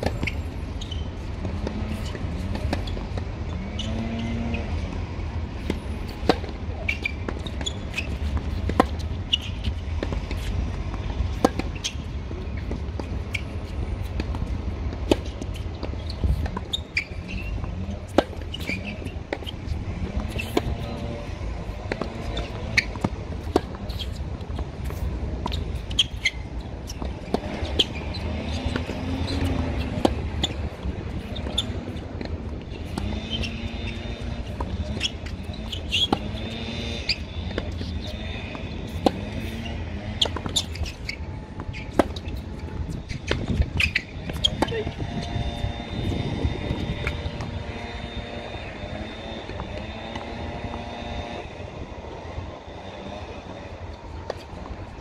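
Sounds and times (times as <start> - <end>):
tennis balls bouncing on hard court: 0.0 - 55.0.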